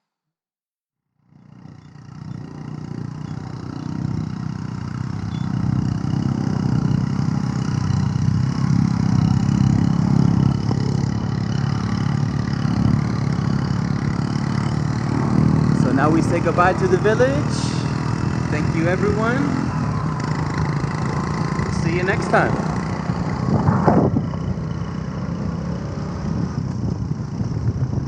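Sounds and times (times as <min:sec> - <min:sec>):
vehicle engine running: 0:01.2 - 0:28.0.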